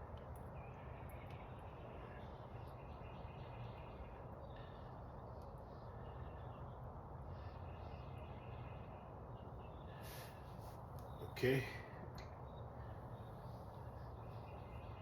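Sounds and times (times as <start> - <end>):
low steady hum: 0.0 - 15.0
faint bird calls: 0.4 - 15.0.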